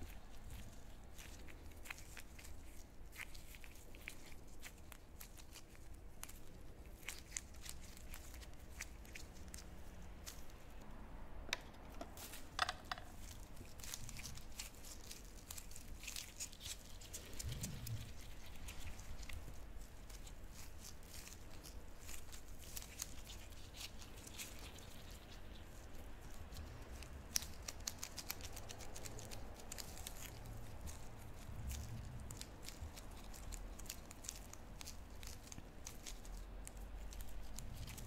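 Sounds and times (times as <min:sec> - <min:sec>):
gloves rubbing and rustling on dough: 0:00.0 - 0:38.0.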